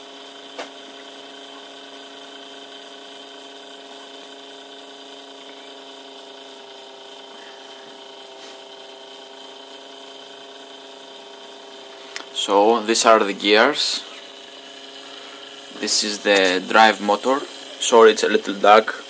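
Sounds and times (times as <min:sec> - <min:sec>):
gear motor whirring: 0:00.1 - 0:19.0.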